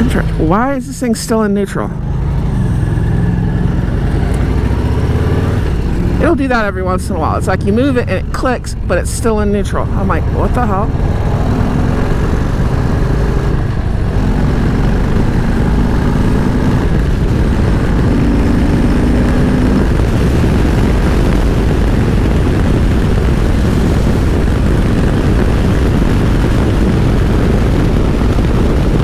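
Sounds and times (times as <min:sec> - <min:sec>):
wind rushing over microphone: 0:00.0 - 0:29.0
motorcycle engine running: 0:01.7 - 0:29.0.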